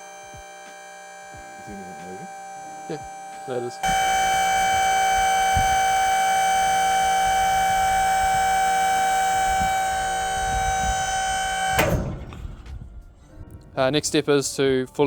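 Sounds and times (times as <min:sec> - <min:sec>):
machine warning alarm tone: 0:00.0 - 0:12.7.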